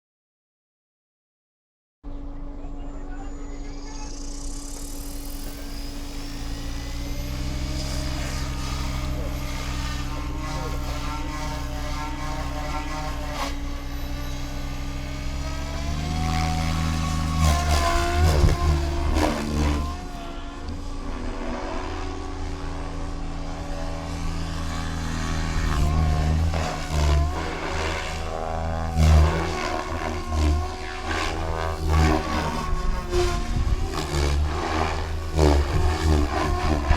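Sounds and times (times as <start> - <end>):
model helicopter rotor whirring: 2.1 - 36.9.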